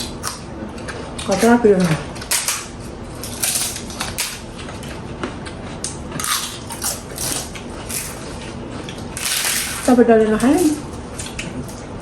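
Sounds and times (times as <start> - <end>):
person chewing and crunching food: 0.0 - 12.0.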